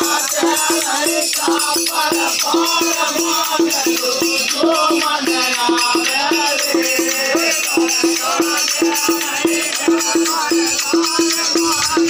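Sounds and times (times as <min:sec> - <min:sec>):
jingling rattling percussion: 0:00.0 - 0:12.0
person singing: 0:00.0 - 0:12.0
pitched drum beating: 0:00.0 - 0:12.0.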